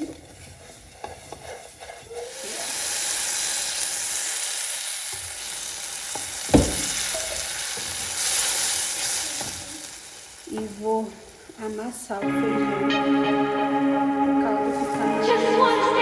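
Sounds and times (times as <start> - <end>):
food sizzling in a pan: 0.0 - 13.7.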